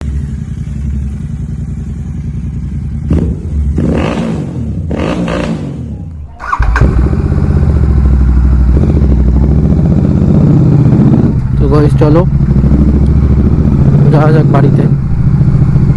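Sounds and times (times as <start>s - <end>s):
motorcycle engine revving: 3.1s - 15.9s.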